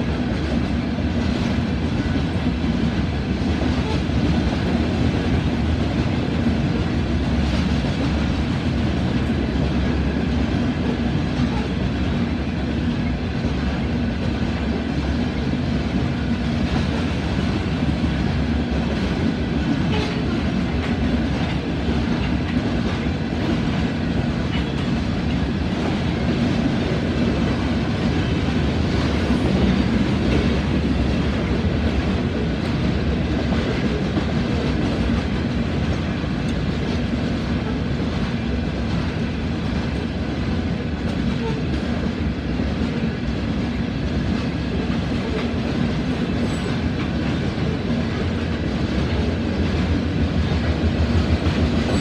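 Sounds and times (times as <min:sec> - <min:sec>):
rail cars clacking: 0:00.0 - 0:52.0
train wheels rumbling on rail: 0:00.0 - 0:52.0.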